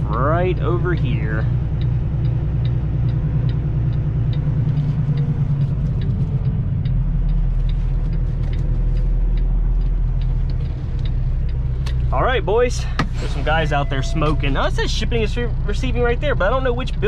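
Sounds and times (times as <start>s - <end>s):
light ticking: 0.0s - 13.8s
truck diesel engine running: 0.0s - 17.0s.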